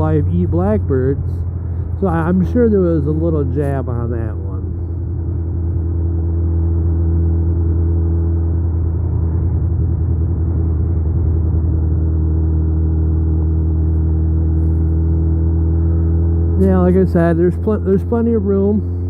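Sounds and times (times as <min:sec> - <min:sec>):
motorcycle engine drone: 0:00.0 - 0:19.0
rushing road noise: 0:00.0 - 0:19.0.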